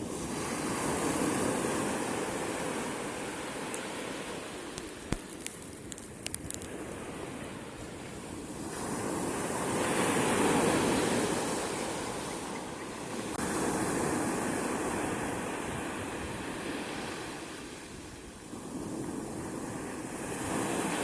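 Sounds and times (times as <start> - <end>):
sea waves washing onto shore: 0.0 - 21.0.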